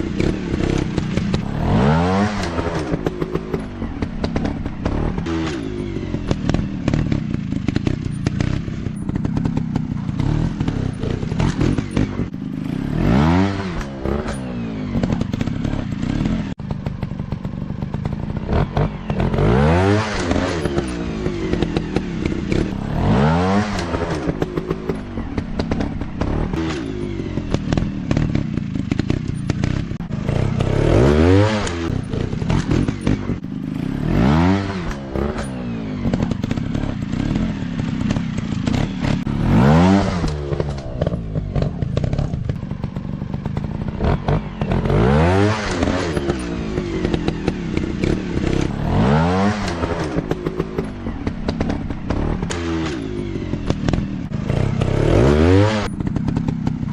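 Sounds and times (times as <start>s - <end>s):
dirt bike engines revving: 0.0s - 56.9s.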